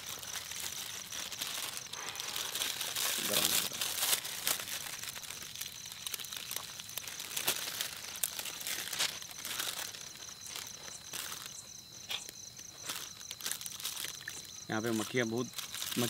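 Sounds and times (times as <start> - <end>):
high-pitched insect trill: 0.0 - 16.0
plastic bags crinkling: 0.0 - 16.0.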